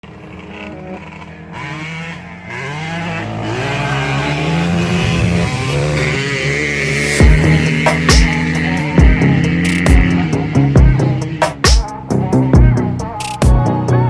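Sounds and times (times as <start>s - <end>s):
dirt bike engine revving: 0.0s - 13.2s.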